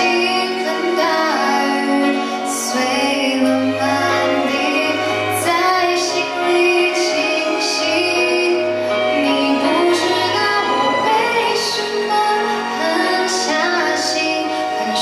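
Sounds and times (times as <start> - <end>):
instrumental accompaniment: 0.0 - 15.0
woman singing pop ballad: 0.0 - 15.0.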